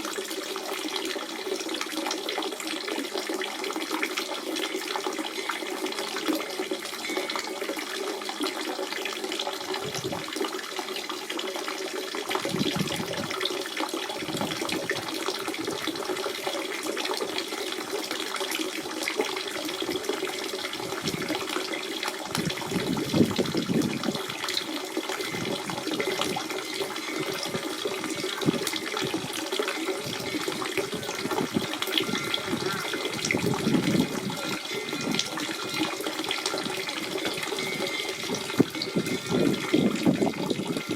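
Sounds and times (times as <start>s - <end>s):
spring water running and splashing: 0.0s - 40.9s.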